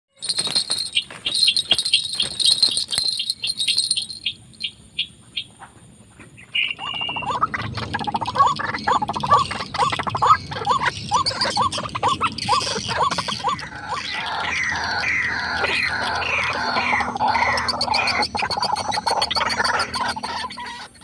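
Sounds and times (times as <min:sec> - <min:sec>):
bird ticking notes: 0:00.1 - 0:05.6, 0:06.5 - 0:21.0
repeated bird calls: 0:00.1 - 0:21.0.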